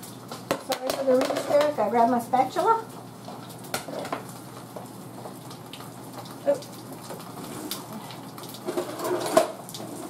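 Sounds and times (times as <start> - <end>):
eggs sizzling in a frying pan: 0.0 - 10.0.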